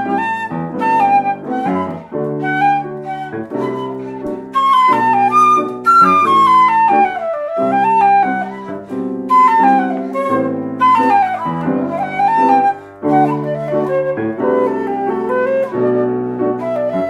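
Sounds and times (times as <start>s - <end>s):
flute playing a melody: 0.0s - 17.0s
piano chords: 0.0s - 17.0s.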